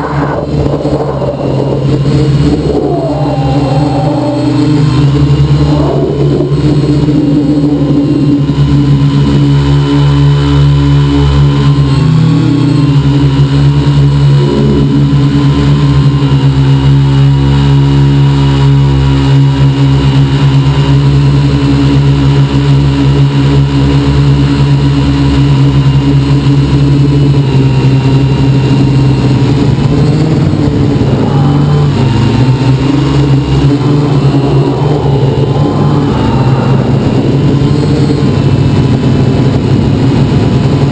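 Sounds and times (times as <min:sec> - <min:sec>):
drone propellers humming: 0:00.0 - 0:40.9.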